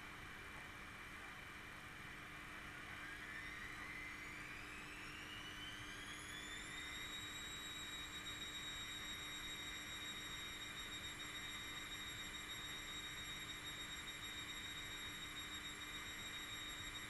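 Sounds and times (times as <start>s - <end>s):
washing machine motor whine: 0.0s - 17.0s.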